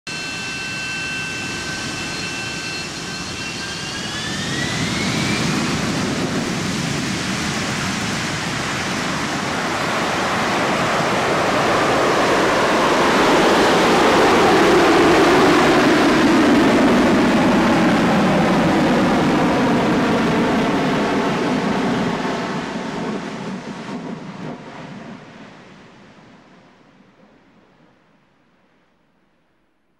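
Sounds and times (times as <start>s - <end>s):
jet aircraft rushing past: 0.1s - 26.1s
jet engine whine: 0.1s - 28.4s.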